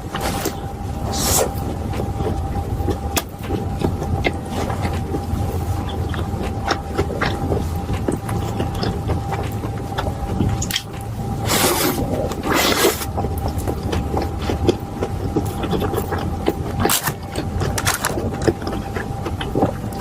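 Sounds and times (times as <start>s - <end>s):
chewing and mouth noises: 0.0s - 20.0s
steady low hum: 0.0s - 20.0s.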